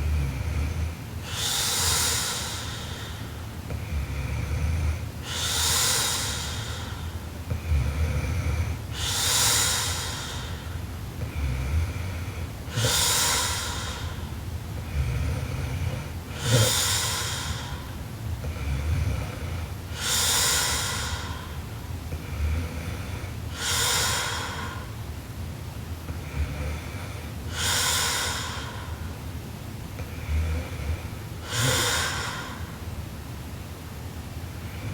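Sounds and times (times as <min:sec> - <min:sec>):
woman snoring heavily: 0:00.0 - 0:25.0, 0:26.2 - 0:29.1, 0:30.0 - 0:32.8.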